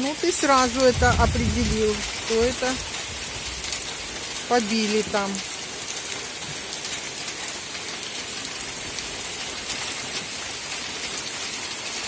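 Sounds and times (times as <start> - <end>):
heavy rain on wooden beehives: 0.0 - 12.0.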